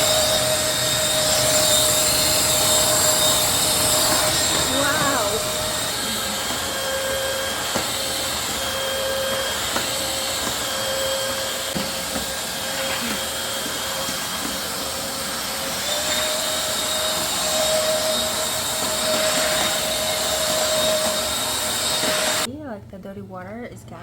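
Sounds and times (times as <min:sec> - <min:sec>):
vacuum mop motor whine: 0:00.0 - 0:22.5.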